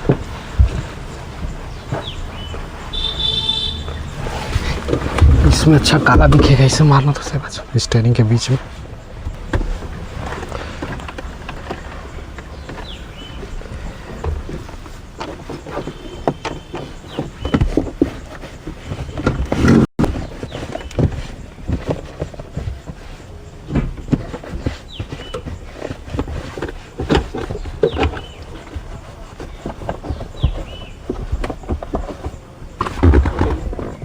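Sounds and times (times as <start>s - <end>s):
knocks bumps and rubbing: 0.0s - 34.0s.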